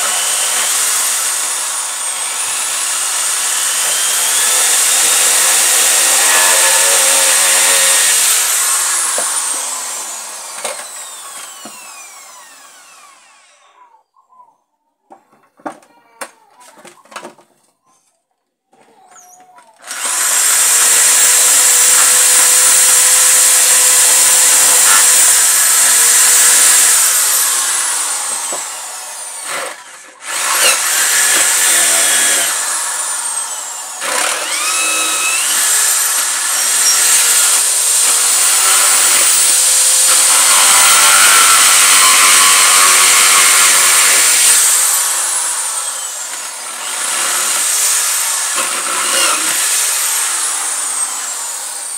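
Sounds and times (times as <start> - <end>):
electric drill whining into wood: 0.0 - 14.0, 19.8 - 51.9.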